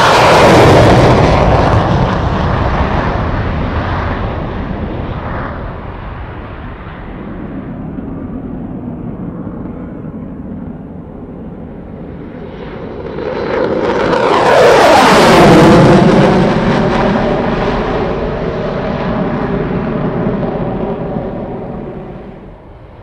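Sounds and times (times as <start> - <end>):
fighter jet flying past: 0.0 - 23.0.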